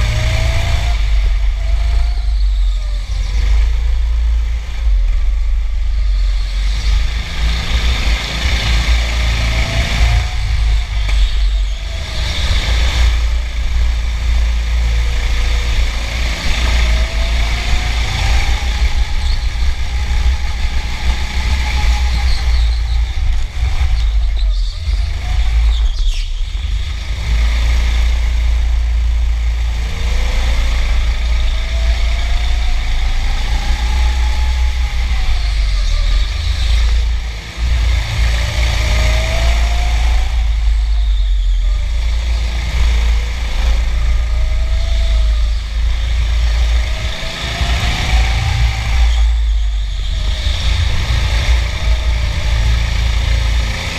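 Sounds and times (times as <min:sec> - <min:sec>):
go-kart motor revving: 0:00.0 - 0:53.9
low chassis vibration rumble: 0:00.0 - 0:53.9.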